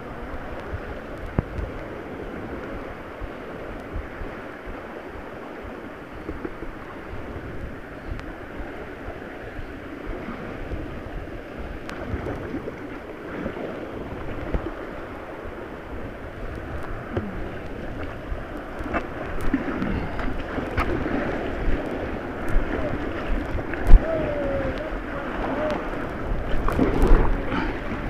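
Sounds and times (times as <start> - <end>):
river rushing and splashing: 0.0 - 28.0
wind buffeting microphone: 0.0 - 28.0.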